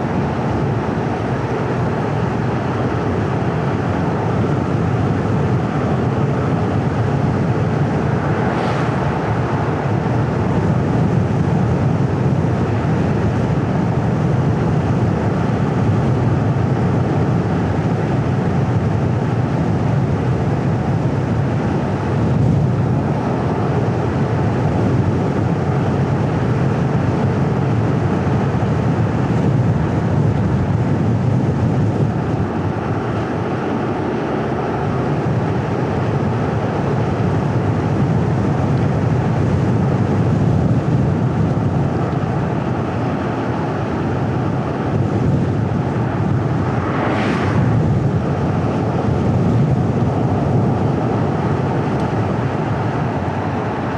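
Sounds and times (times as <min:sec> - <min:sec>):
car driving on paved road: 0:00.0 - 0:53.9.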